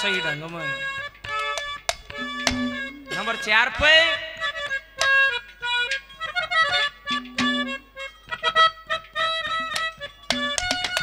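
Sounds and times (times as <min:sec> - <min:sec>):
harmonium playing folk melody: 0:00.0 - 0:11.0
sharp percussive strikes: 0:01.2 - 0:11.0.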